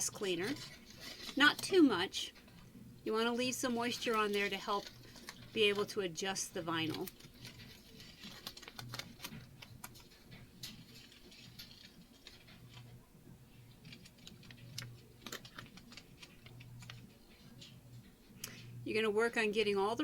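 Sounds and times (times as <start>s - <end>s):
hands working vinyl sheet: 0.0s - 18.4s.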